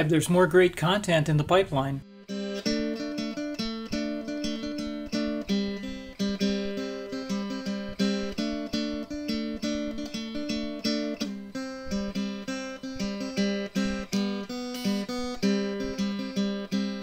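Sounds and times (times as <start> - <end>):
acoustic guitar strumming: 1.4 - 17.0.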